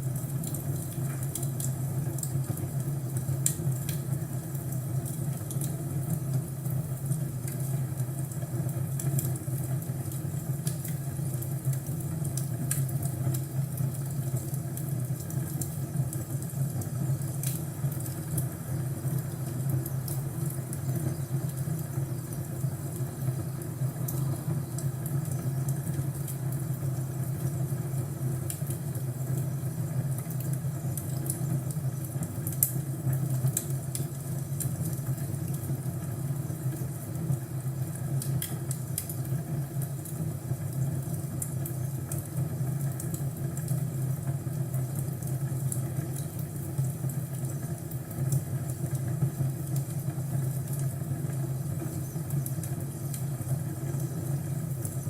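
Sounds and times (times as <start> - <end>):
fire crackling and popping: 0.0 - 55.0
fire rumbling: 0.0 - 55.0.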